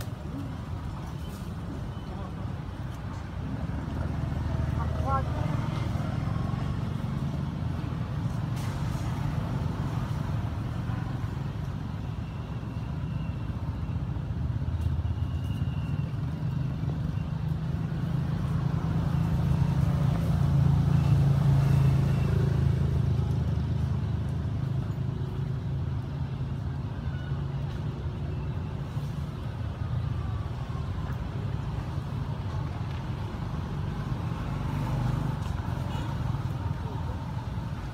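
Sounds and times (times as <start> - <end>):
vehicle engine rumble: 0.0 - 37.9.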